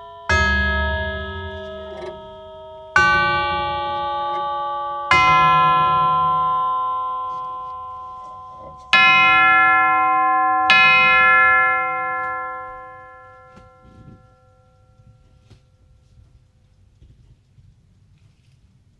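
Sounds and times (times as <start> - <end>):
clock tubular chime ringing: 0.0 - 15.5.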